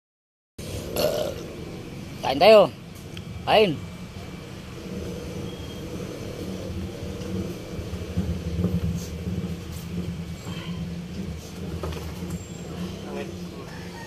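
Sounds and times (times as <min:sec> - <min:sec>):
engine running: 0:00.6 - 0:14.0.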